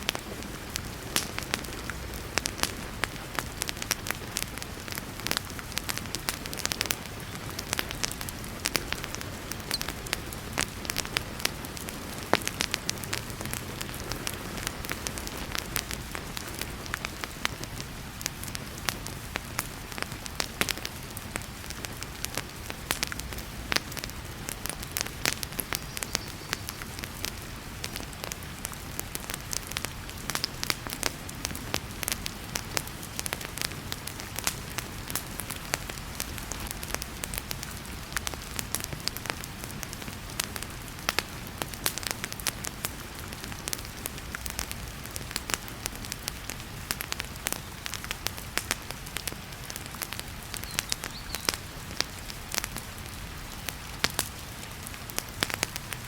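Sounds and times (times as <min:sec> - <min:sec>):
heavy rain: 0:00.0 - 0:56.0
wood fire crackling and popping: 0:00.0 - 0:56.0.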